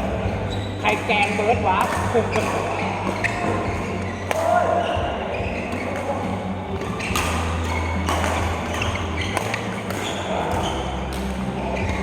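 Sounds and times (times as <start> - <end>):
low hum and hall noise: 0.0 - 12.0.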